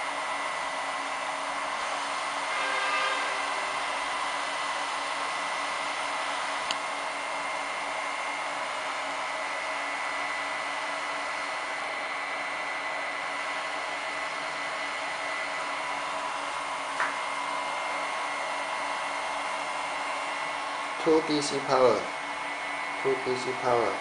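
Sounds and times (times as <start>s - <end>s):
cooling fans whirring: 0.0s - 24.0s
thin steady whine: 0.0s - 24.0s.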